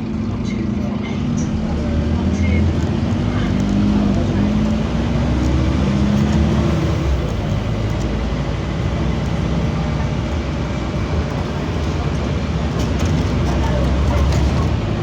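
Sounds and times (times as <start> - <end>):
bus diesel engine running: 0.0 - 15.0
road noise: 0.0 - 15.0.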